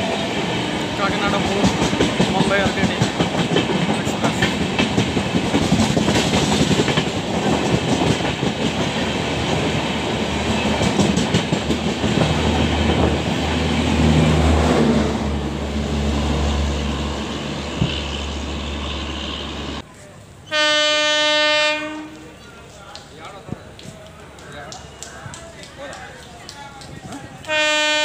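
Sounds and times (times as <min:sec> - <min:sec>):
train coaches rushing past: 0:00.0 - 0:28.0.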